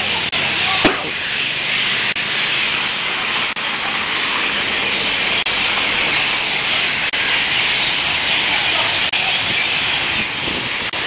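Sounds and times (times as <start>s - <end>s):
water rushing in flooded street: 0.0s - 11.0s.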